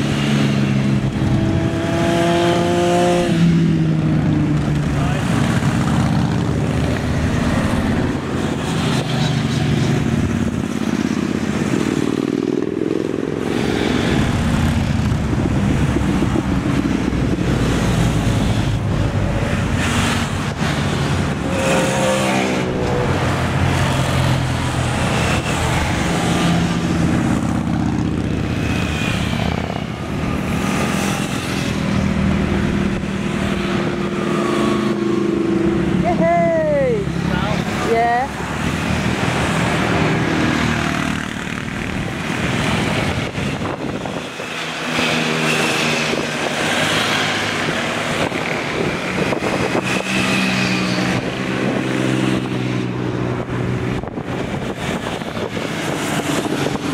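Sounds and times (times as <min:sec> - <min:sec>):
cars passing: 0:00.0 - 0:56.9
motorcycles riding past: 0:00.0 - 0:56.9.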